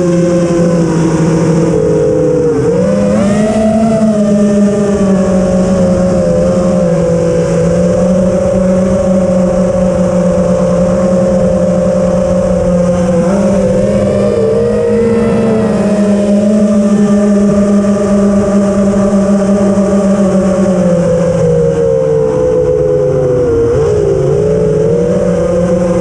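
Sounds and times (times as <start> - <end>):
drone propellers humming: 0.0 - 26.0.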